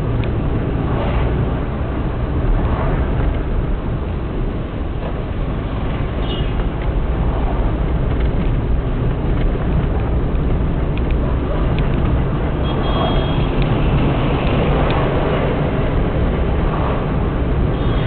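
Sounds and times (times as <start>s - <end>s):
vehicle engine rumble: 0.0s - 18.0s
wind noise: 0.0s - 18.0s.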